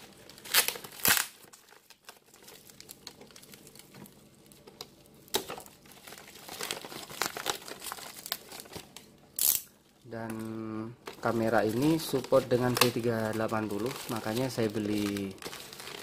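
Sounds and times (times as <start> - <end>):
plastic mailer crinkling: 0.0 - 9.2, 10.1 - 16.0
plastic tearing: 0.0 - 16.0.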